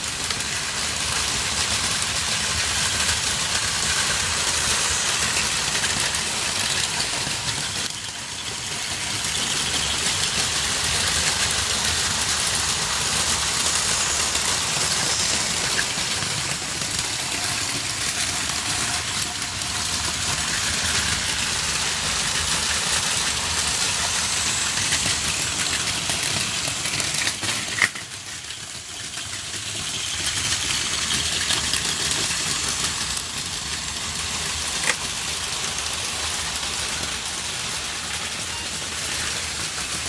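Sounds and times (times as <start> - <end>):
toy trains whirring and rattling: 0.0 - 40.0.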